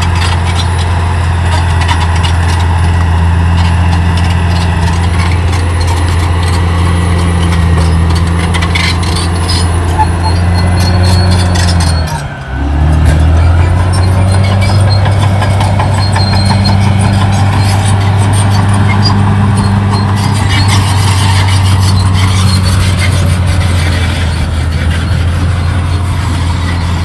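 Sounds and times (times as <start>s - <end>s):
bulldozer diesel engine droning: 0.0s - 27.0s.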